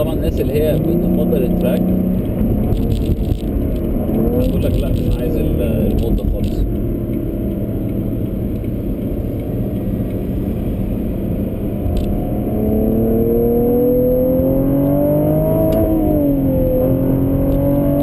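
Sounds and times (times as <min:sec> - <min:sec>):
car engine accelerating: 0:00.0 - 0:18.0
road rumble: 0:00.0 - 0:18.0.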